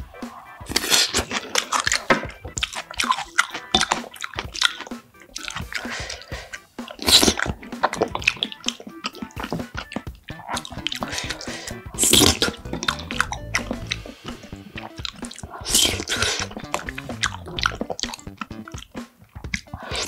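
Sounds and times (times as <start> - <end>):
mouth clicks and squelches: 0.0 - 20.0
wet chewing: 0.3 - 20.0.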